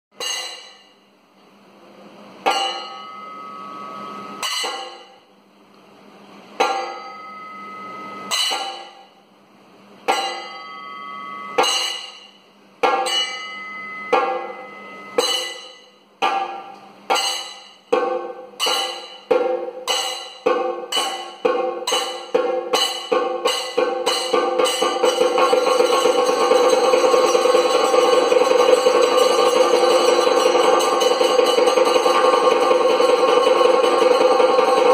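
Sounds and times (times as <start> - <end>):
ringing metallic percussion strikes: 0.1 - 1.1, 2.3 - 5.3, 6.6 - 9.2, 10.0 - 34.9.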